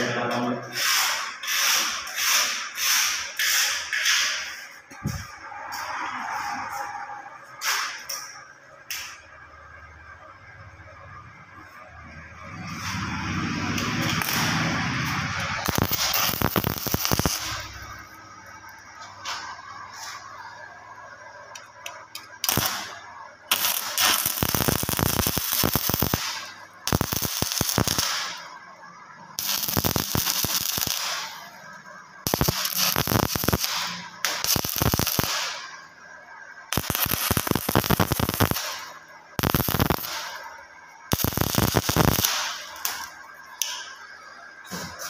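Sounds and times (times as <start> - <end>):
welding arc crackling: 0.0 - 6.8, 12.4 - 20.7, 21.4 - 35.9, 36.6 - 44.0.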